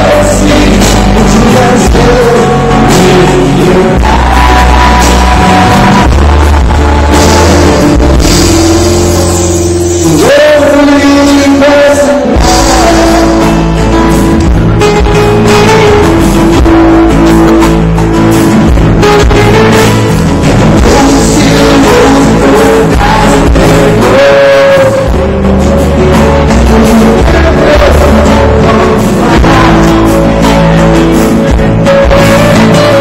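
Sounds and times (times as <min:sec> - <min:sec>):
person singing: 0:00.0 - 0:17.9, 0:20.6 - 0:33.0
electric guitar: 0:00.0 - 0:33.0
live rock band: 0:00.0 - 0:33.0.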